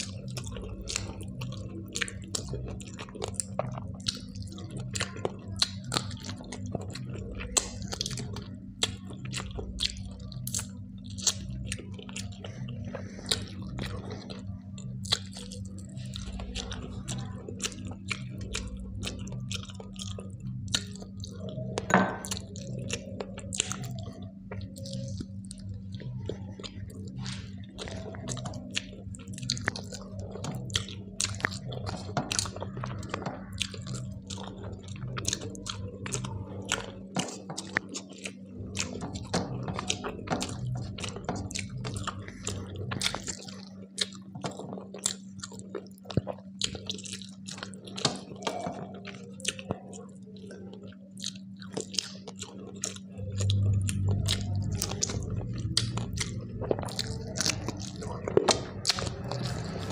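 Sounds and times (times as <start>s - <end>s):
chewing with mouth clicks: 0.0s - 59.9s
low hum: 0.0s - 59.9s.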